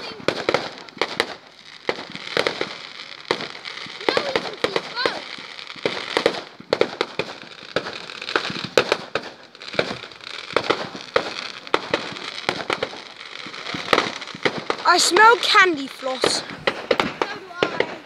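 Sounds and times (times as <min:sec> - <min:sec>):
fireworks popping and banging: 0:00.0 - 0:18.0.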